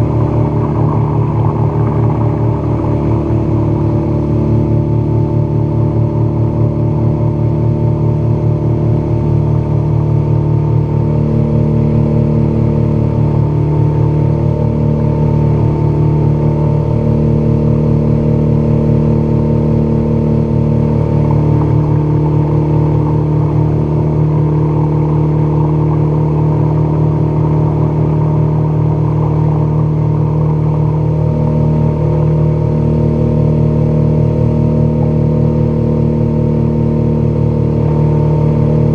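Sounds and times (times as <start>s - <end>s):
outboard motor running: 0.0s - 38.9s
water rushing along hull: 0.0s - 38.9s.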